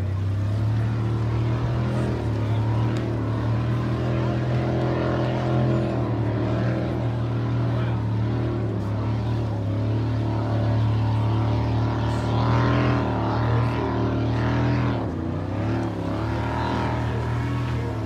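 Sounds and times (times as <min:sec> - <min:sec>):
jet ski engine passing: 0:00.0 - 0:18.0.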